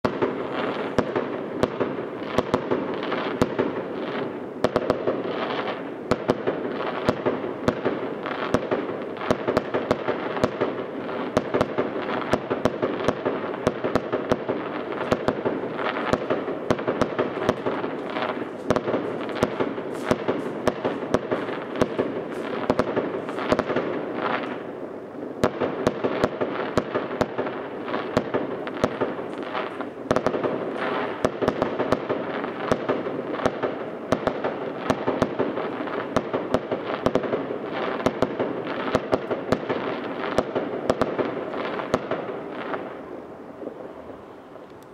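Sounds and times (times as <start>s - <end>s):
fireworks crackling and banging: 0.0s - 44.9s.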